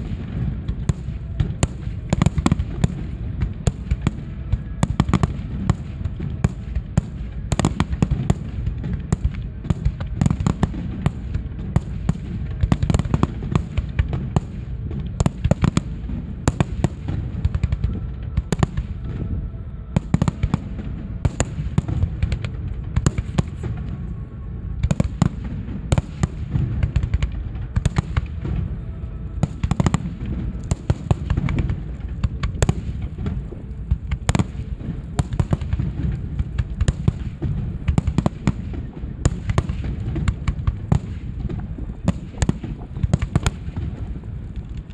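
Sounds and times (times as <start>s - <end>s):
fireworks bangs and crackles: 0.0s - 44.9s
low rumble: 0.0s - 44.9s.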